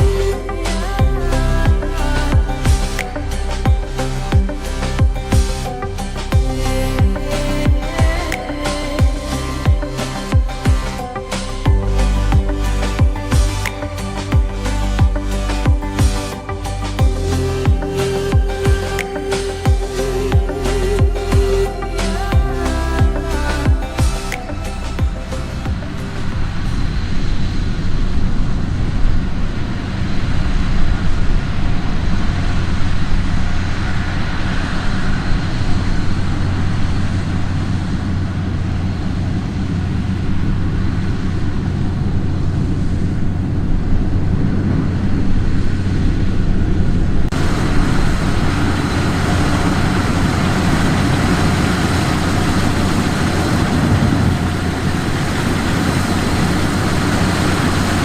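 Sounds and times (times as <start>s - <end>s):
combine harvester engine droning: 0.0s - 58.0s.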